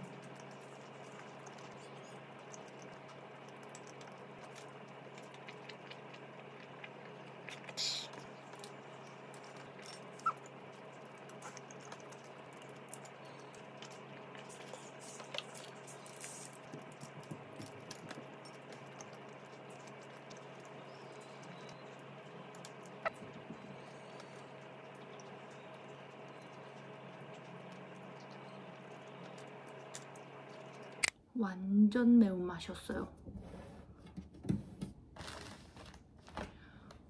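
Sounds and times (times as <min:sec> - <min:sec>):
chewing clicks and smacks: 0:00.0 - 0:31.1
steady low hum: 0:00.0 - 0:35.2.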